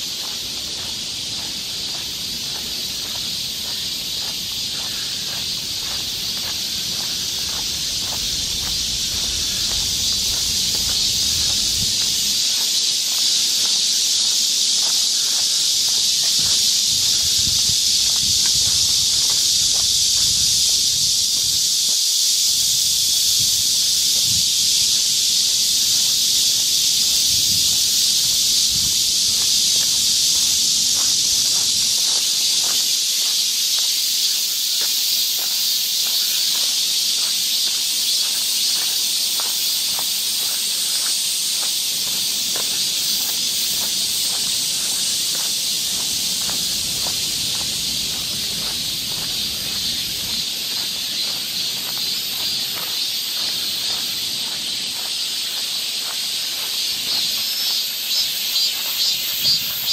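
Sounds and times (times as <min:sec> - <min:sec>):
footsteps on dirt path: 0:00.0 - 0:22.0, 0:25.4 - 0:59.9
cicadas buzzing: 0:00.0 - 0:59.9.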